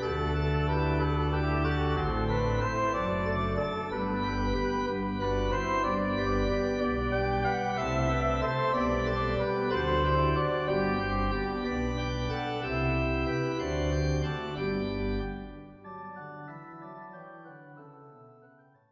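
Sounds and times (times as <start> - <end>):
pipe organ chords: 0.0 - 18.6.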